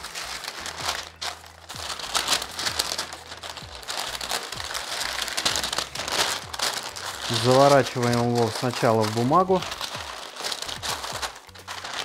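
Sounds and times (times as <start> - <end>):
paper and foil crinkling: 0.0 - 12.0.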